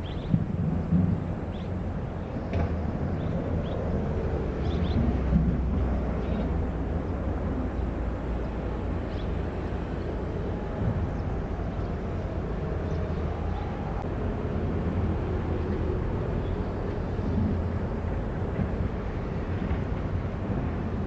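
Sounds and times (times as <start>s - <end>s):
diesel engine low rumble: 0.0s - 21.0s.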